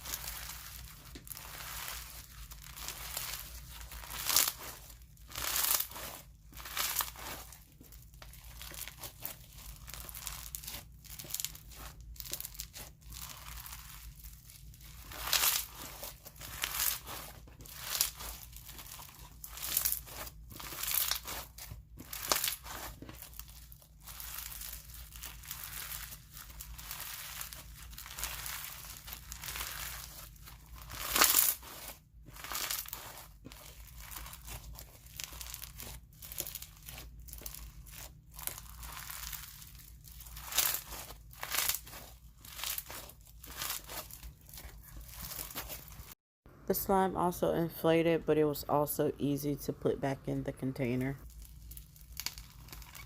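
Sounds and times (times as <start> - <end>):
crunchy slime squeezed by hand: 0.0 - 46.1, 51.2 - 53.0.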